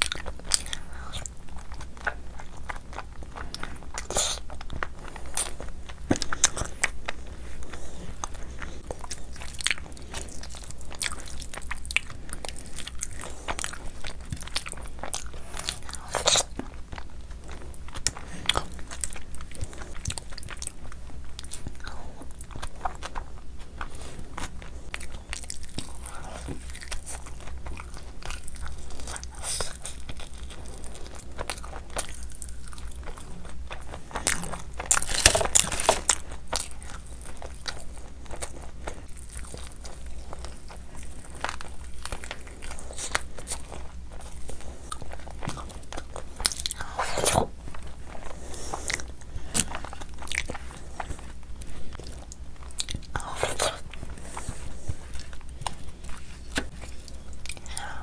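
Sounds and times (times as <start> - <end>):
person chewing and lip-smacking: 0.0 - 58.0.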